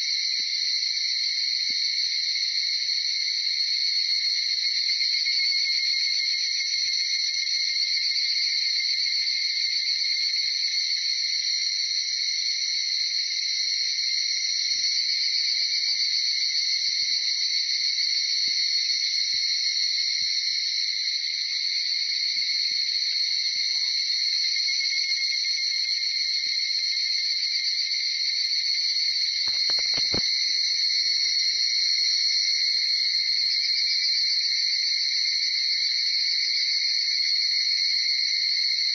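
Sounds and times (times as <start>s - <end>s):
cicadas trilling in chorus: 0.0s - 38.9s.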